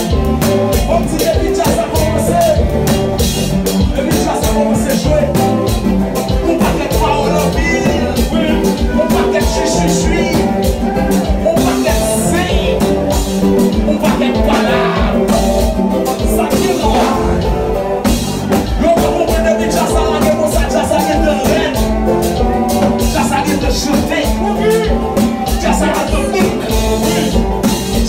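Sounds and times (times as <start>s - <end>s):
band music with singing: 0.0s - 28.0s
steady drum beat: 0.0s - 28.0s.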